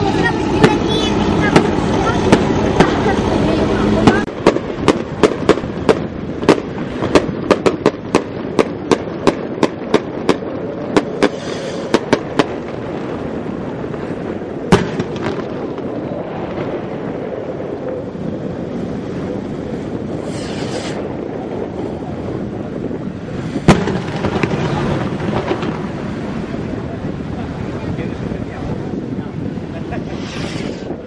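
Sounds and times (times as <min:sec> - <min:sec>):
boat engine drone: 0:00.0 - 0:31.0
firecrackers banging: 0:00.0 - 0:31.0
water: 0:00.0 - 0:31.0.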